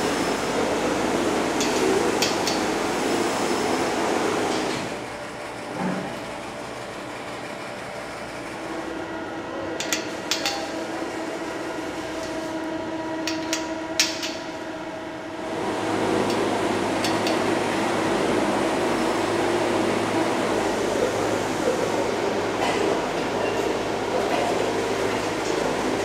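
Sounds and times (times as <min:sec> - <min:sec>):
factory machinery humming: 0:00.0 - 0:26.0.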